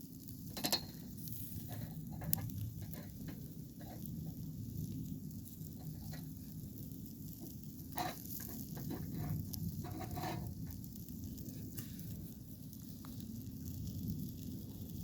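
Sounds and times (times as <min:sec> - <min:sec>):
chicken sizzling: 0:00.0 - 0:15.0.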